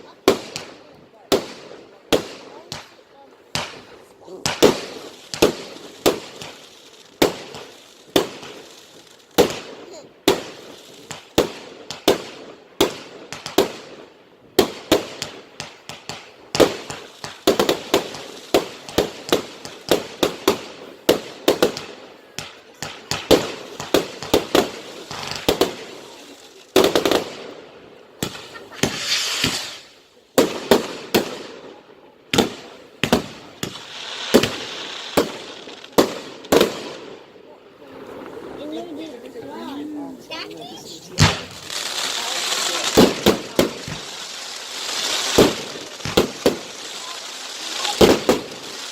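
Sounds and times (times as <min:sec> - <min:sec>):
firework bangs: 0:00.0 - 0:48.9
firework crackle: 0:00.0 - 0:48.9.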